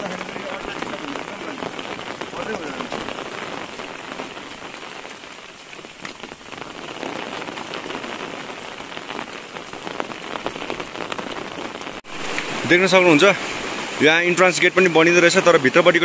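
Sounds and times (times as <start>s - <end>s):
heavy rain on wet ground: 0.0s - 16.0s.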